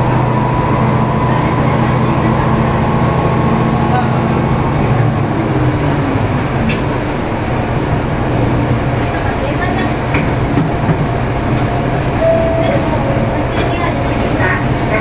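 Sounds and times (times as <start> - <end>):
railcar diesel engine running: 0.0 - 15.0
wheels rumbling on rail: 0.0 - 15.0.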